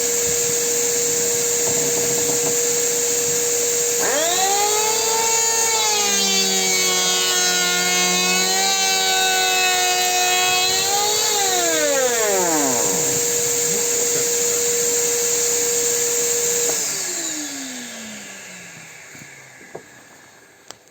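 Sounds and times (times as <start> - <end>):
electric planer motor whining: 0.0 - 20.9
steady motor hum: 0.0 - 20.9.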